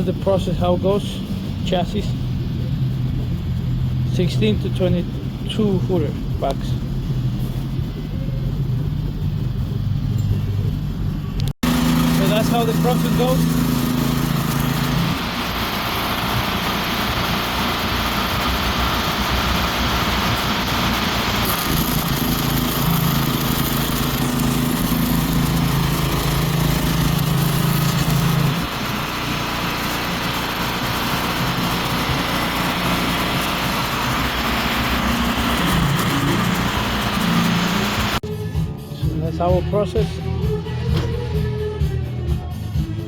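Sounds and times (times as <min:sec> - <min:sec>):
low hum: 0:00.0 - 0:38.8
engine running: 0:00.0 - 0:43.0.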